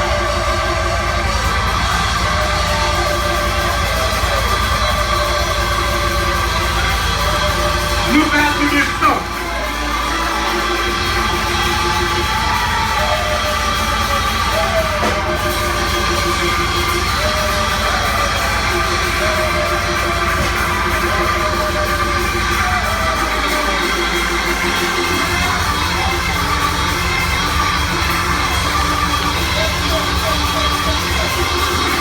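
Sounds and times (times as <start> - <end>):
congregation yelling and whooping: 0.0 - 32.0
live church praise music: 0.0 - 32.0.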